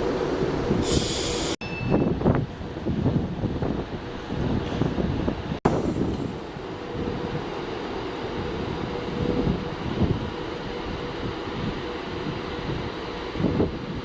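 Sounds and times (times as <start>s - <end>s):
train rumbling with whine: 0.0s - 14.0s.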